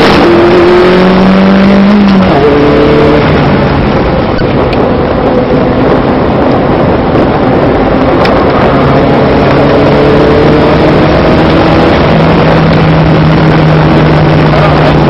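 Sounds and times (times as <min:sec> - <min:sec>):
car engine accelerating: 0:00.0 - 0:15.0
loud rush of road noise: 0:00.0 - 0:15.0.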